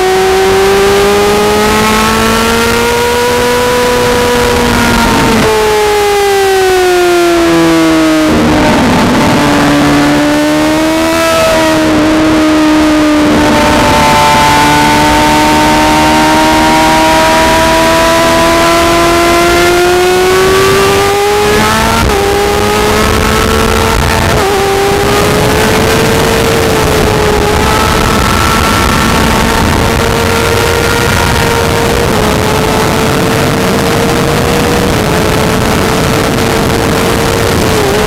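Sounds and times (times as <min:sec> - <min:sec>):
motorcycle engine at high revs: 0:00.0 - 0:38.0
wind rush: 0:00.0 - 0:38.0.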